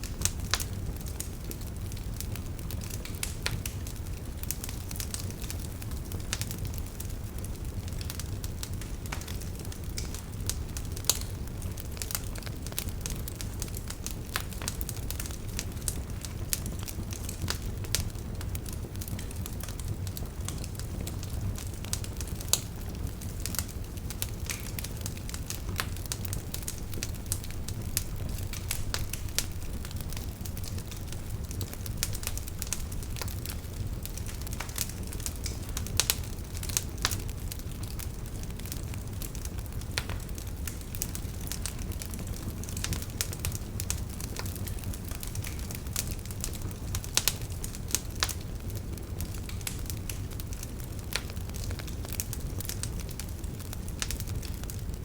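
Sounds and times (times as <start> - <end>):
burning wood popping: 0.0 - 55.0
fire crackling: 0.0 - 55.0
wood fire rumbling: 0.0 - 55.0.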